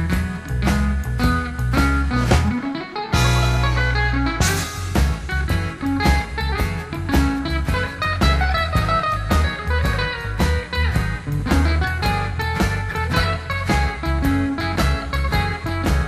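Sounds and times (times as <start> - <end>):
instrumental music with steady beat: 0.0 - 16.0.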